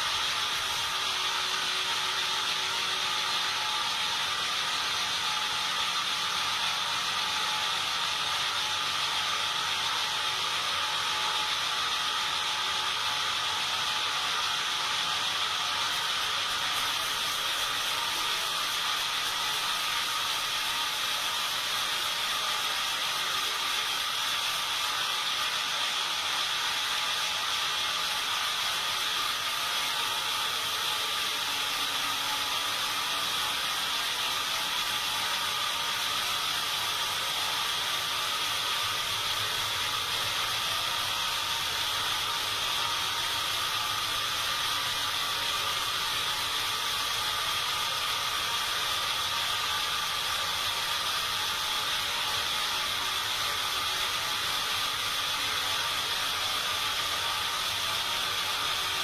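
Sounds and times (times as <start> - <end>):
saw running high-pitched: 0.0 - 59.0.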